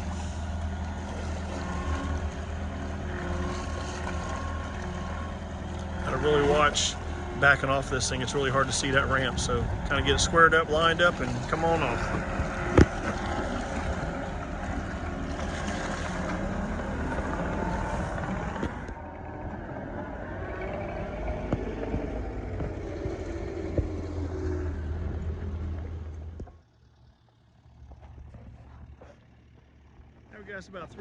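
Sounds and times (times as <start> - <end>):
heavy machine engine running: 0.0 - 31.0.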